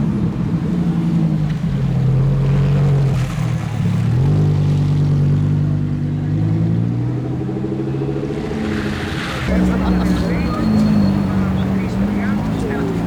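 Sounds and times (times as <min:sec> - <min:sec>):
car engine pulling away: 0:00.1 - 0:13.0.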